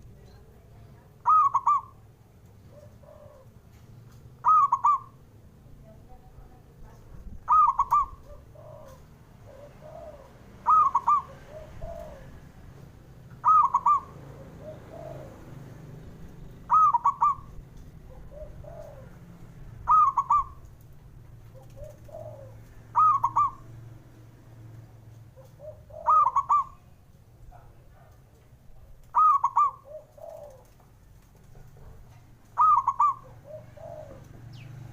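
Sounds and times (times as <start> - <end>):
dove cooing: 1.0 - 5.3, 6.2 - 24.0, 24.8 - 34.9.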